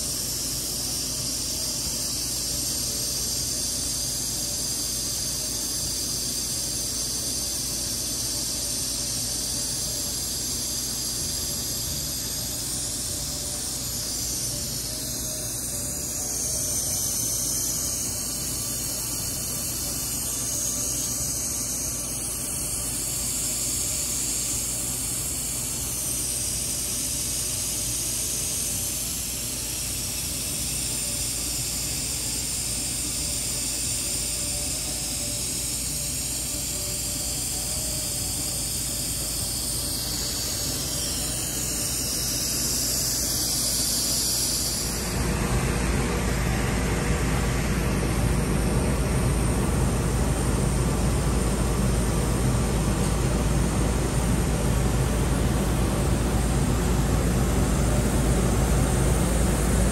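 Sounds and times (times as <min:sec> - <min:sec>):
roller-forming machine hiss and hum: 0:00.0 - 0:59.9.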